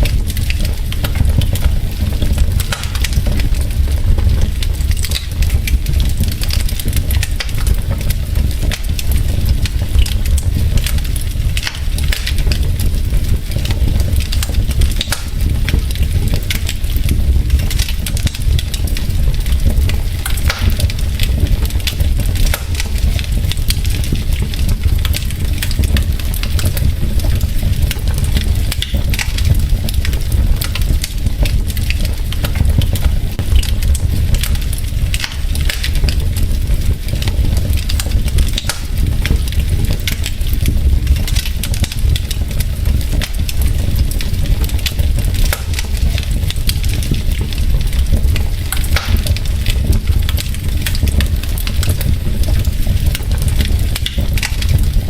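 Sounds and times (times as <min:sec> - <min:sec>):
logs crackling in fireplace: 0:00.0 - 0:55.0.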